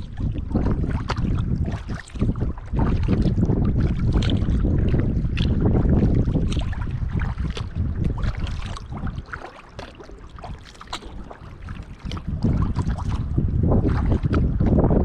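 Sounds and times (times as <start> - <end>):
paddle splashing water: 0.0 - 15.0
wind buffeting microphone: 0.0 - 15.0.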